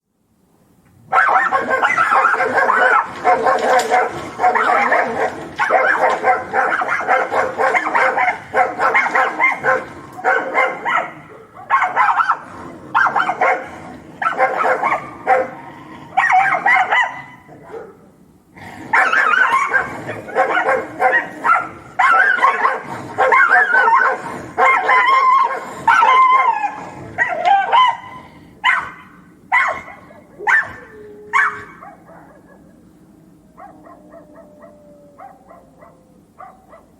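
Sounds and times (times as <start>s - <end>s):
dogs barking angrily: 1.0s - 36.9s.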